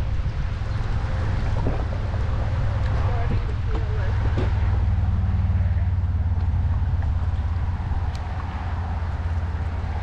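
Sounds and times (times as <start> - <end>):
river water flowing: 0.0 - 10.0
wind buffeting the microphone: 0.0 - 10.0.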